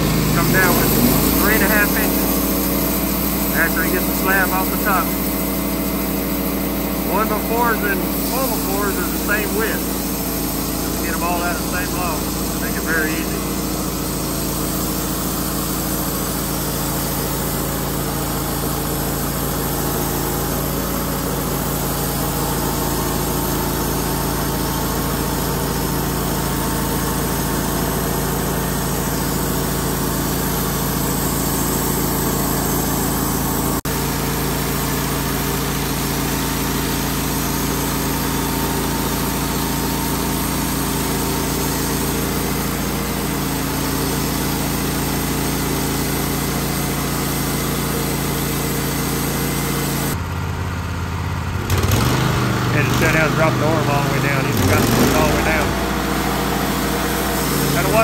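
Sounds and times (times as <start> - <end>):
band sawmill cutting log: 0.0 - 50.2, 51.7 - 58.0.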